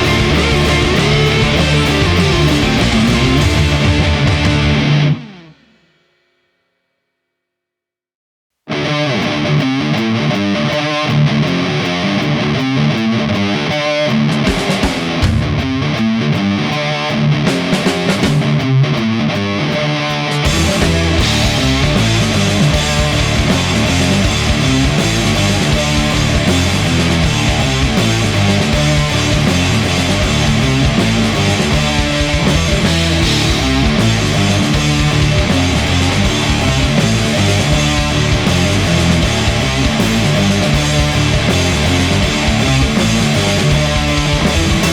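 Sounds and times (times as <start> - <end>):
distorted electric guitar riff: 0.0 - 5.7, 8.7 - 44.9
metal band with drums: 0.0 - 6.2, 8.8 - 44.9.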